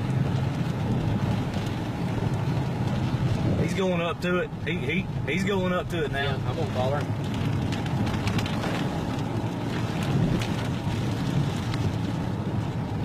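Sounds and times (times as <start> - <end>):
wind buffeting microphone: 0.0 - 5.3, 6.3 - 13.0
rain: 0.0 - 13.0
vehicle rumble: 0.0 - 13.0.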